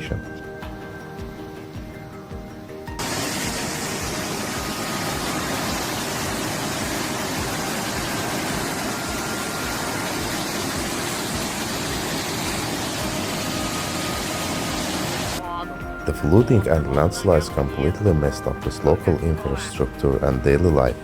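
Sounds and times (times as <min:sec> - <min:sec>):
floodwater rushing: 0:02.9 - 0:21.0.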